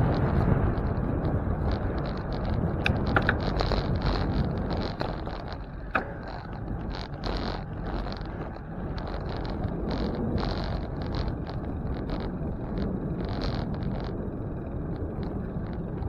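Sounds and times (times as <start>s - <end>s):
sharp clicks or rattles: 0.0s - 14.2s
wind rushing over microphone: 0.0s - 16.0s.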